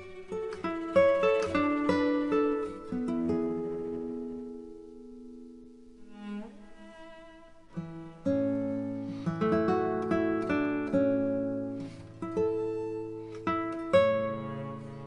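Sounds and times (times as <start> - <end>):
plucked string instrumental music: 0.0 - 15.0.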